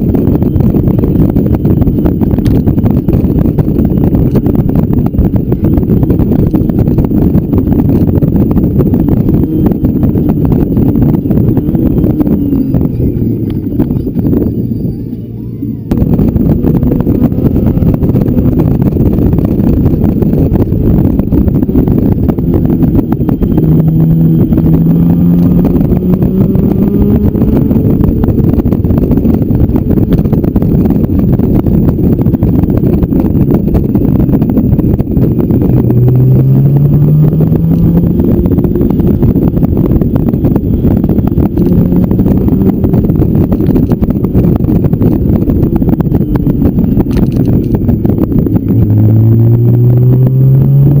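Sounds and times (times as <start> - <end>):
motorcycle engine accelerating: 0.0 - 15.0, 15.7 - 51.0
wind buffeting microphone: 0.0 - 51.0.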